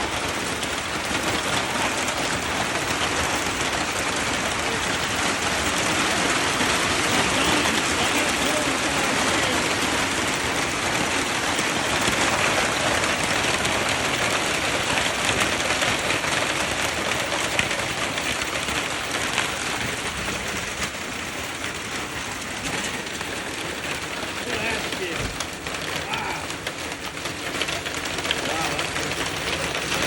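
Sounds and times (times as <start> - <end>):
hailstones striking clicks: 0.0 - 30.0
heavy hail and rain pounding: 0.0 - 30.0
loud hail cracks: 0.0 - 30.0.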